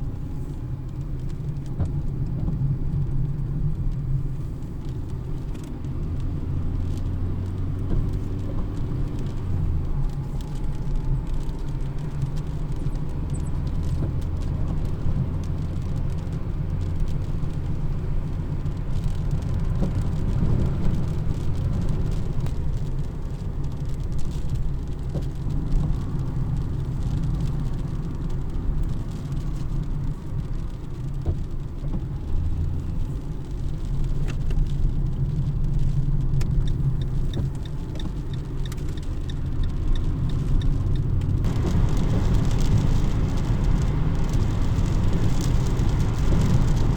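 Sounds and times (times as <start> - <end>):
car rumbling on road: 0.0 - 46.9.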